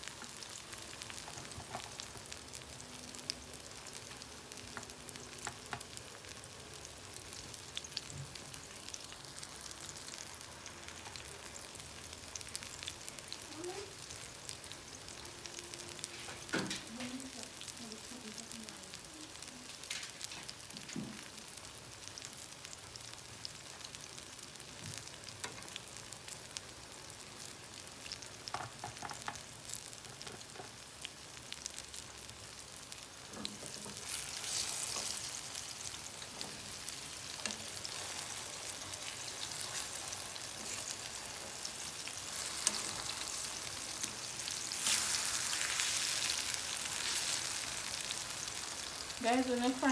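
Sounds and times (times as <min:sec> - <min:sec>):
plantain frying in hot oil: 0:00.0 - 0:49.9.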